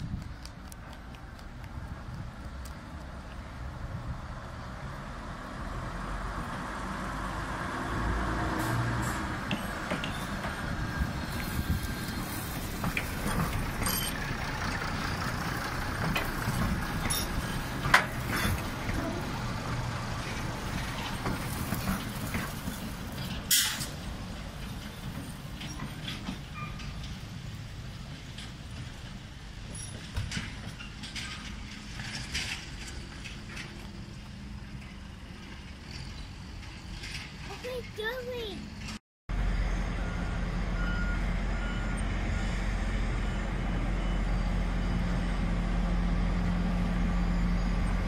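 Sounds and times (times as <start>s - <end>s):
diesel railmotor passing: 0.0s - 48.0s.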